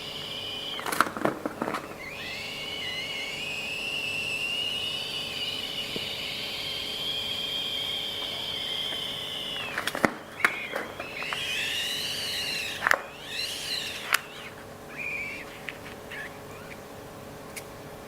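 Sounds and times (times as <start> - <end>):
rubber balloons squeaking: 0.0 - 17.1.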